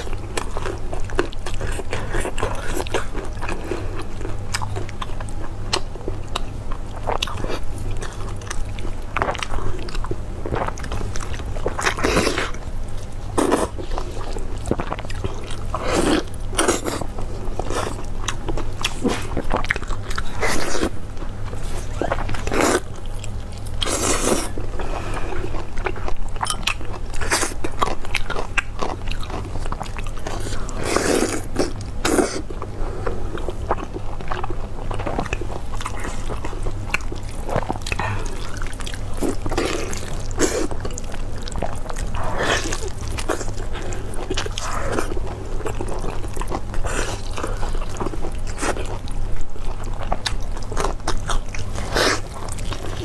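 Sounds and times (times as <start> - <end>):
biting and chewing meat: 0.0 - 53.0.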